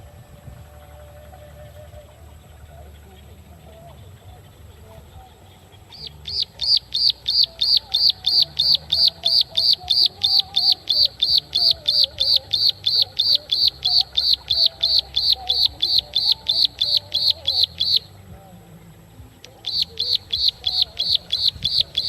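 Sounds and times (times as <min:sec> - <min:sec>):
bird calling loudly: 0:00.7 - 0:22.0.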